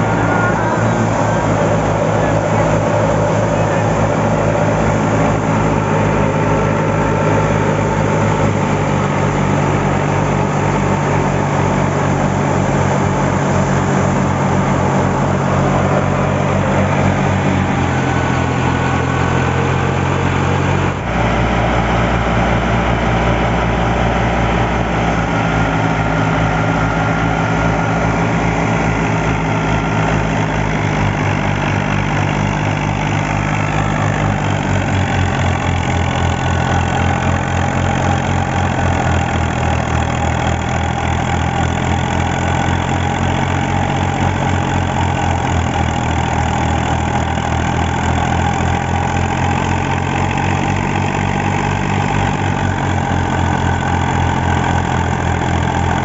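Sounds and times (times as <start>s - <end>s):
thresher running: 0.0s - 56.0s
tractor diesel engine running: 0.0s - 56.0s.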